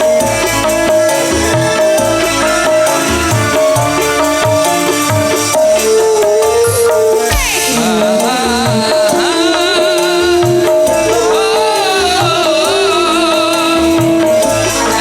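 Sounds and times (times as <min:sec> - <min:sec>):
hand-drum rhythm: 0:00.0 - 0:15.0
wavering melody line: 0:00.0 - 0:15.0.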